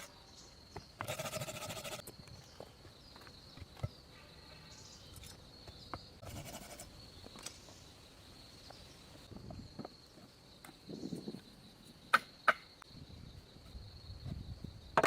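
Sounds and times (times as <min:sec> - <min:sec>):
high-pitched insect trill: 0:00.0 - 0:15.0.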